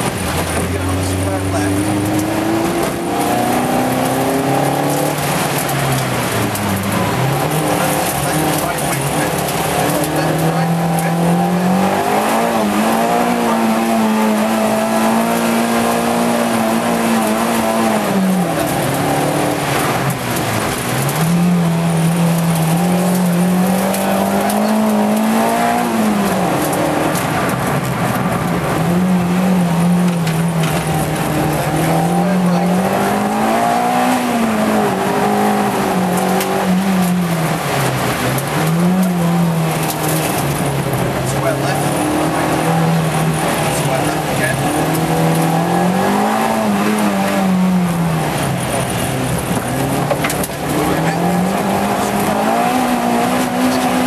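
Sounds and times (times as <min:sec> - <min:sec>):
car engine revving from inside: 0:00.1 - 0:06.3, 0:06.9 - 0:27.6, 0:28.7 - 0:54.0.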